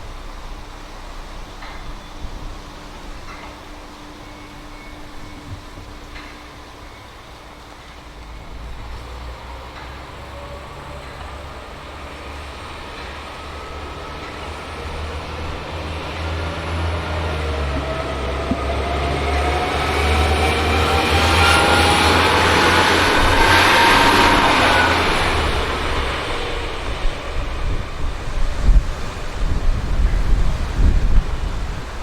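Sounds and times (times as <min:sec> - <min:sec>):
train rumbling with rising whine: 0:00.0 - 0:32.0.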